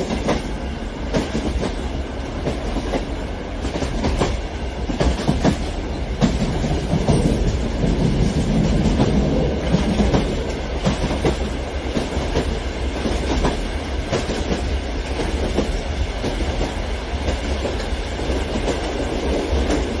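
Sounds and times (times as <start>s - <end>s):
model train rumbling on track: 0.0s - 20.0s
wheels clicking over rail joints: 0.0s - 20.0s.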